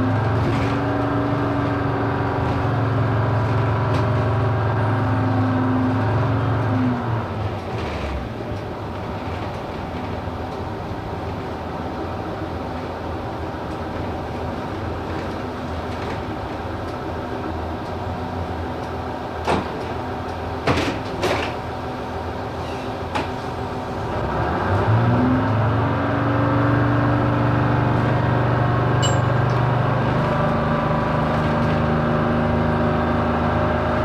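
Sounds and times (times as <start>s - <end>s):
bus engine running: 0.0s - 34.0s.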